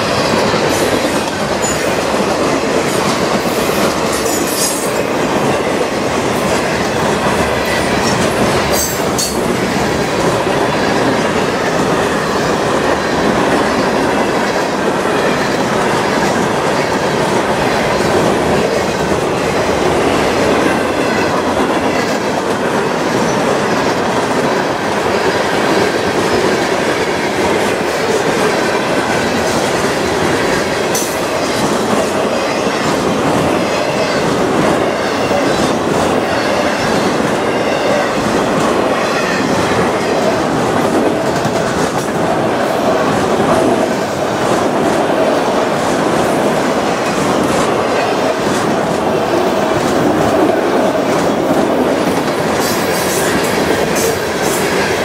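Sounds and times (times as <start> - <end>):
train wheels rolling on rail: 0.0 - 55.0.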